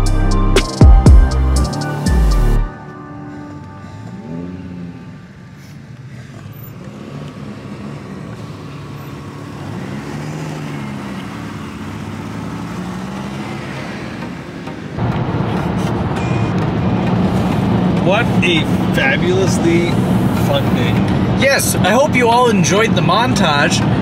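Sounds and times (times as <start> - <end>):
car engine revving: 3.8 - 24.0.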